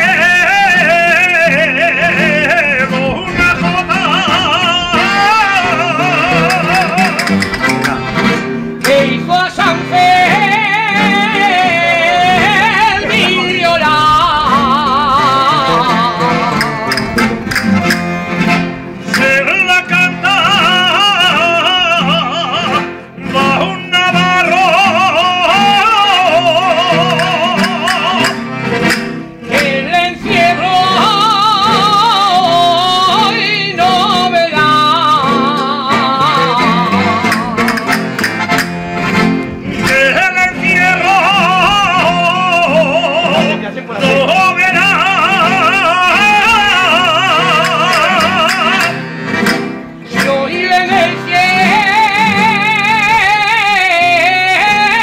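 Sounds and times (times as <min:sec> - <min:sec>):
man singing in wavering voice: 0:00.0 - 0:08.2, 0:08.8 - 0:16.9, 0:19.1 - 0:28.5, 0:29.4 - 0:37.8, 0:39.8 - 0:49.0, 0:50.0 - 0:55.0
strummed guitar: 0:00.0 - 0:55.0.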